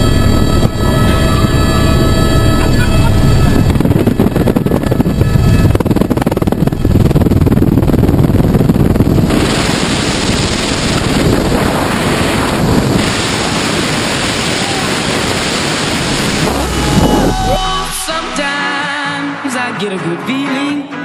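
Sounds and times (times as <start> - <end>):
helicopter rotor rumble: 0.0 - 18.1
helicopter engine whine: 0.0 - 18.4
wind on microphone: 0.0 - 18.4.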